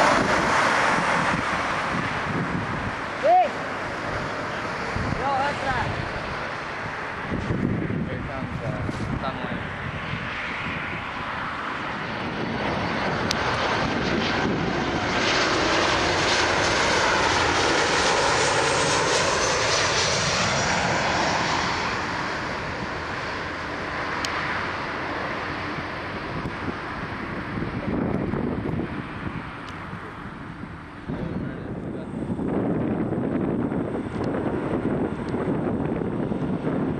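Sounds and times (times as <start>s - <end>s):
jet airliner passing overhead: 0.0s - 36.9s.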